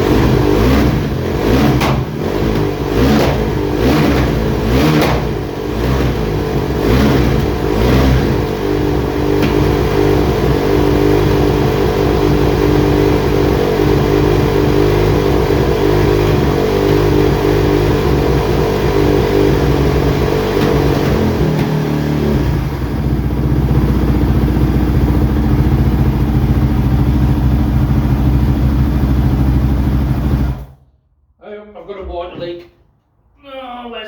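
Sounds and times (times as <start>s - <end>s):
motocross engine idling: 0.0s - 30.8s.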